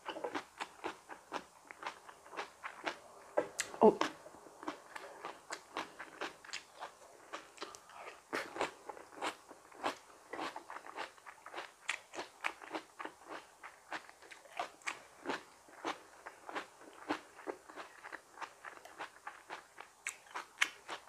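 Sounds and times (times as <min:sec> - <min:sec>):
person chewing crunchy vegetables: 0:00.0 - 0:21.0.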